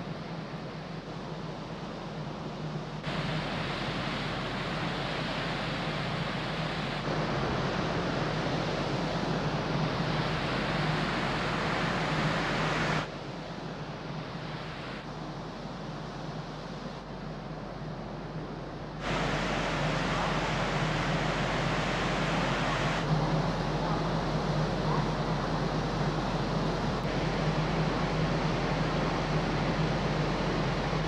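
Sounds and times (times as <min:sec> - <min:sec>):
ship engine hum: 0:00.0 - 0:31.0
wind and water rushing: 0:01.4 - 0:31.0.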